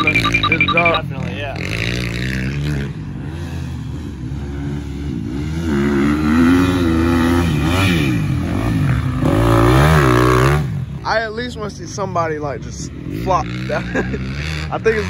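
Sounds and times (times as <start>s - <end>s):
dirt bike engine revving: 0.0s - 11.1s, 13.1s - 15.0s.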